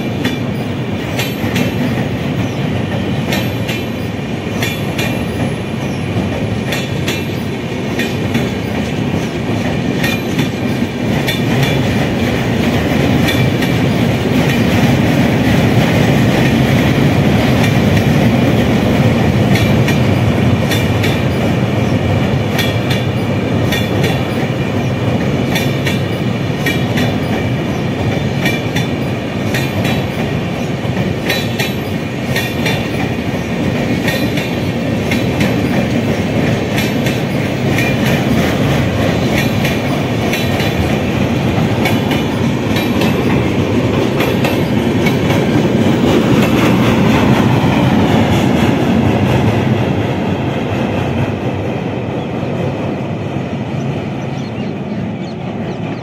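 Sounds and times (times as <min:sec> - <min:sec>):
clickety-clack of wheels: 0:00.0 - 0:05.6, 0:06.2 - 0:21.6, 0:22.5 - 0:51.6
train coaches rumbling past: 0:00.0 - 0:56.0.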